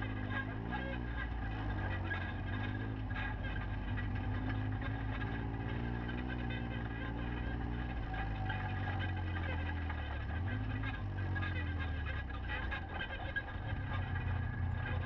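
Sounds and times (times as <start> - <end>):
off-road vehicle engines revving: 0.0 - 15.0
tyres rumbling on gravel: 0.0 - 15.0.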